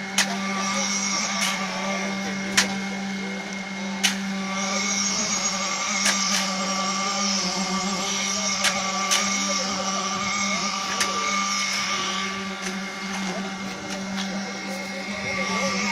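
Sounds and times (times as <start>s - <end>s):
concrete pump humming: 0.0s - 15.9s.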